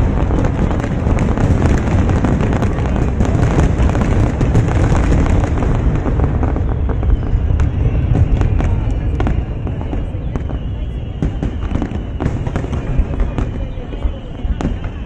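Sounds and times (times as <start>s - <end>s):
fireworks booming and crackling: 0.0s - 15.0s
sharp firework cracks: 0.0s - 15.0s.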